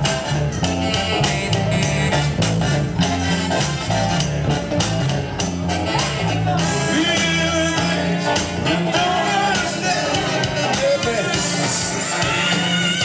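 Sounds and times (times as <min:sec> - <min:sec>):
live band playing dance music: 0:00.0 - 0:13.0.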